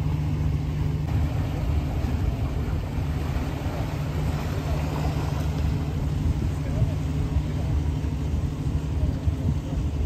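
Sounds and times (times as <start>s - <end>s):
diesel engines idling: 0.0s - 10.0s.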